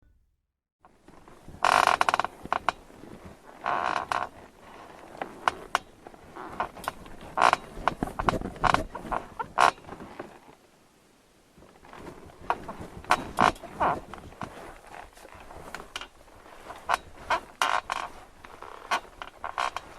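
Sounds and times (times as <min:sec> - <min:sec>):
bed frame creaking and squeaking: 0:00.9 - 0:10.6, 0:11.6 - 0:19.9.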